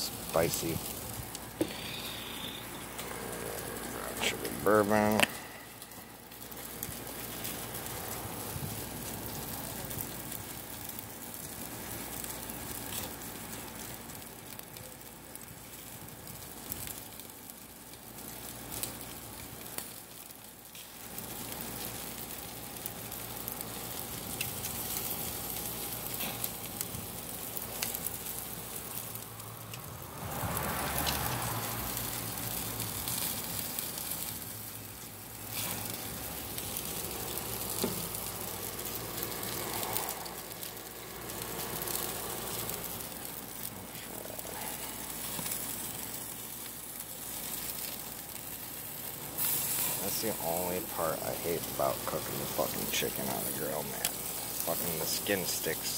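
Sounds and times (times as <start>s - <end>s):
meat sizzling on grill: 0.0s - 55.9s.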